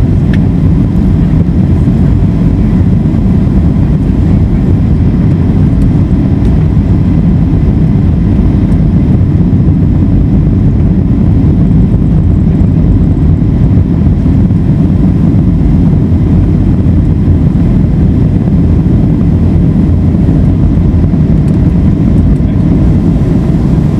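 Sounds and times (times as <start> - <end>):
airplane cabin rumble taxiing: 0.0 - 23.9.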